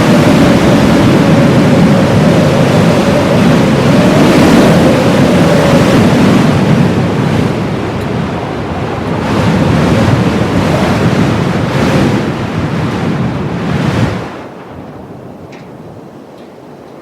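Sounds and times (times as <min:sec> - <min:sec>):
blizzard wind rushing: 0:00.0 - 0:17.0
wind whistling in gusts: 0:00.0 - 0:17.0.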